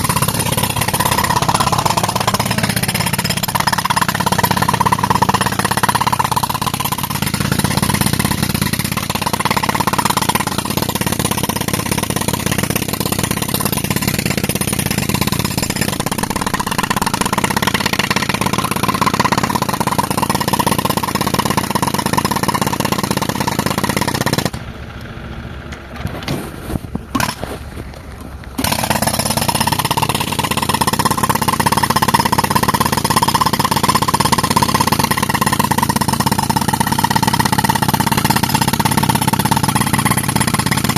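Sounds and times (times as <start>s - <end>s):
pneumatic rock breaker hammering: 0.0s - 24.6s, 26.0s - 40.9s.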